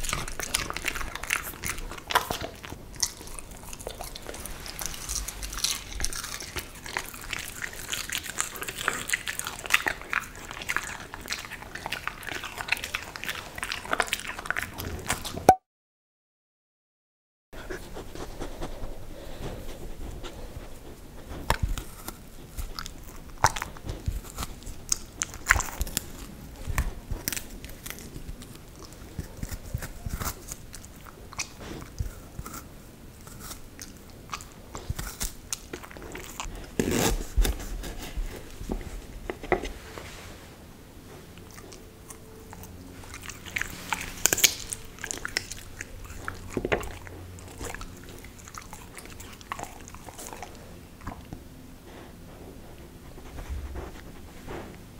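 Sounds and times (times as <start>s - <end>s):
dog crunching raw vegetable: 0.0s - 15.6s, 17.7s - 39.8s, 41.1s - 54.9s.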